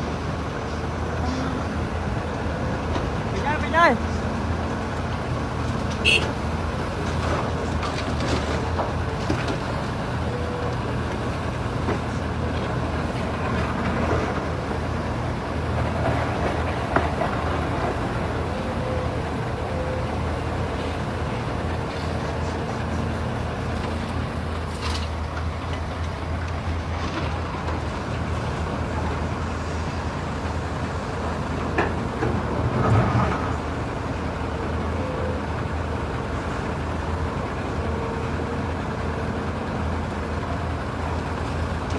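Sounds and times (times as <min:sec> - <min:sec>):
heavy machinery engine droning: 0:00.0 - 0:41.9.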